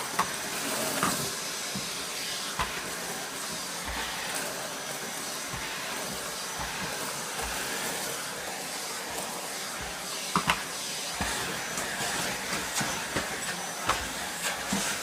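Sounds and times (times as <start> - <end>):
vacuum cleaner sucking up paper: 0.0 - 15.0.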